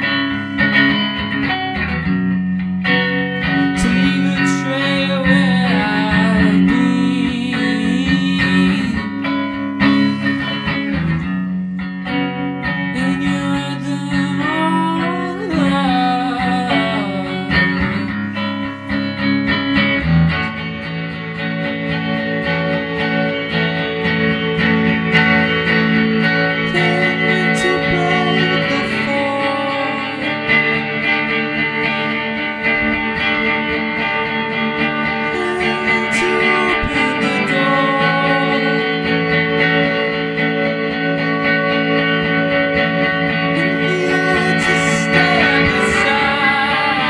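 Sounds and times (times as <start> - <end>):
guitar playing: 0.0 - 47.0.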